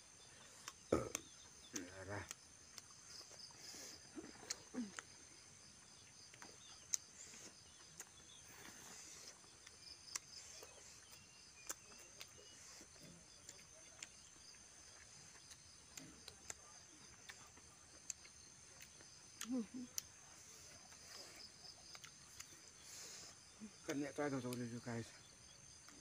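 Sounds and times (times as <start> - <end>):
high-pitched insect chorus: 0.0 - 26.0
people chewing with lip smacks: 0.0 - 26.0.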